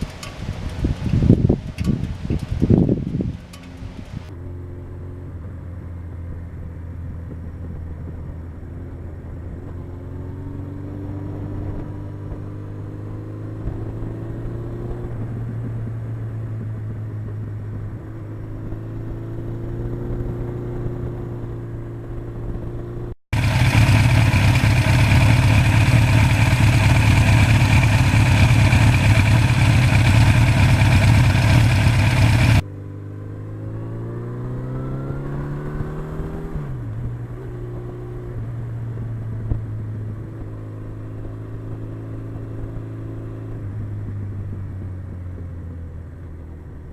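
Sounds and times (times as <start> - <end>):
motorcycle engine running: 0.0 - 46.8.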